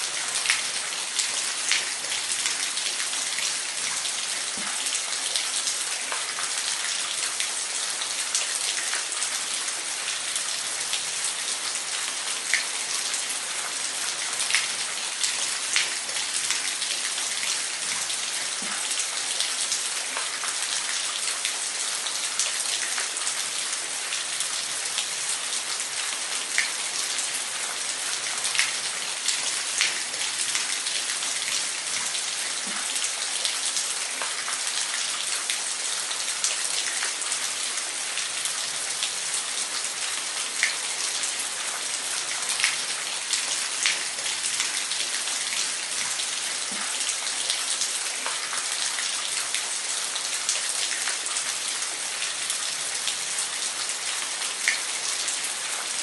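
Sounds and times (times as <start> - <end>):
water splashes and drips: 0.0 - 56.0.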